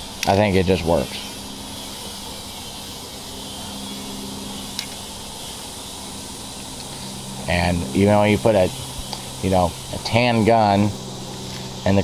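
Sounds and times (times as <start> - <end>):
faint hiss: 0.0 - 12.0
low mechanical hum: 0.0 - 12.0.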